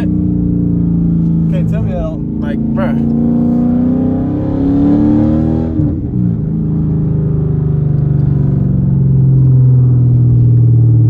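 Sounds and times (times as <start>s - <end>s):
engine revving: 0.0s - 10.3s.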